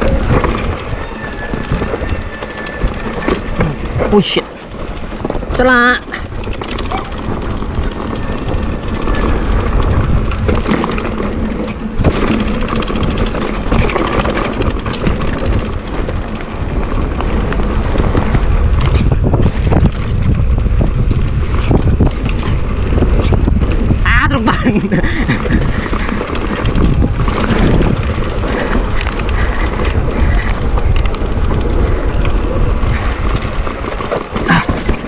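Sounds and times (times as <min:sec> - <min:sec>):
bike clattering over bumps: 0:00.0 - 0:35.0
wind on microphone: 0:00.0 - 0:35.0.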